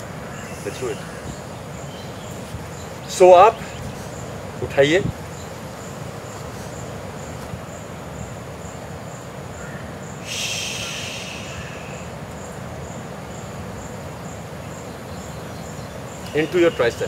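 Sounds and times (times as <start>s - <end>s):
hissing rush of noise: 0.0s - 14.8s
insect chirping: 0.0s - 17.0s.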